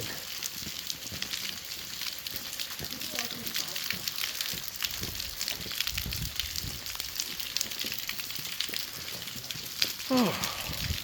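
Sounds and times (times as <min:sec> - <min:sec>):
close raindrop ticks: 0:00.0 - 0:11.0
rain patter: 0:00.0 - 0:11.0.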